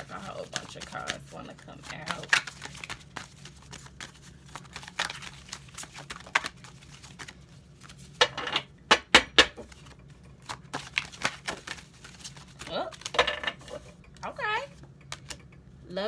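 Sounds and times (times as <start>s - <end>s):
cards being shuffled: 0.0s - 8.3s, 9.5s - 14.3s, 15.1s - 15.4s.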